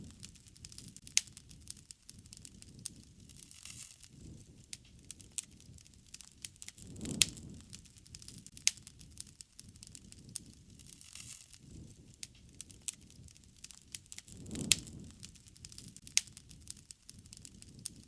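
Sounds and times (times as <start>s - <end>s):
low rumble of flames: 0.0s - 18.0s
wood crackling and popping: 0.0s - 18.0s.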